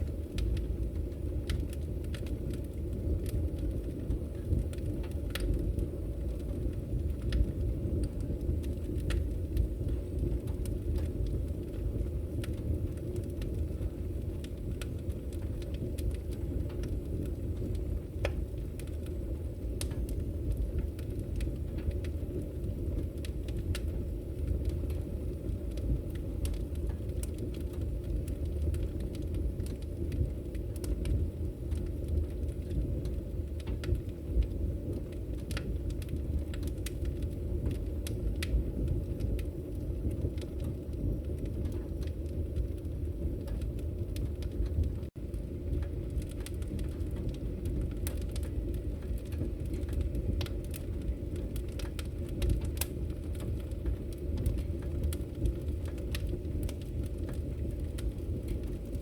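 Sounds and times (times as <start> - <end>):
crackles and pops of burning wood: 0.0 - 59.0
fire rumbling: 0.0 - 59.0.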